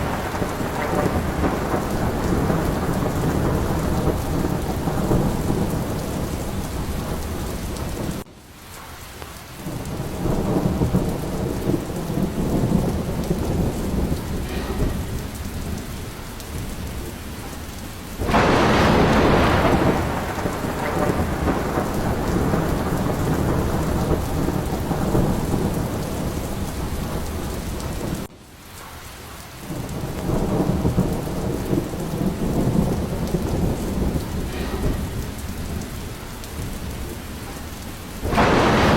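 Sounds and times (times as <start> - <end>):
low rolling thunder: 0.0 - 8.3, 9.5 - 38.9
thunder crack: 0.0 - 28.3, 28.9 - 38.9
heavy rain: 0.0 - 38.9.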